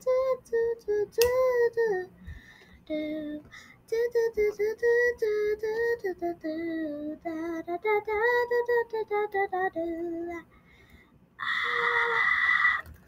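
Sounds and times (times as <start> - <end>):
girl singing wordless tune: 0.0 - 10.6.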